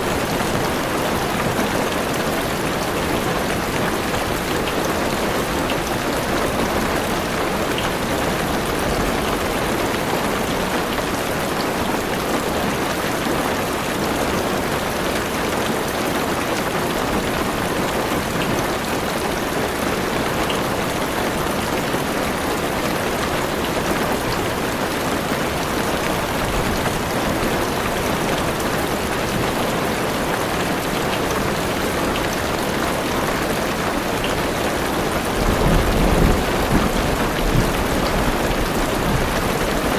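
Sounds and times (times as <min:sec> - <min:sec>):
heavy rain on car roof: 0:00.0 - 0:39.9.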